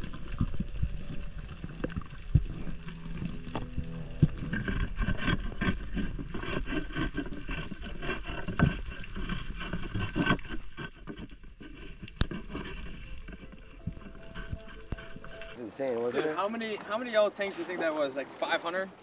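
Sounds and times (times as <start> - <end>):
stick scraping rock underwater: 0.0 - 15.6
steady water hiss: 0.0 - 19.0.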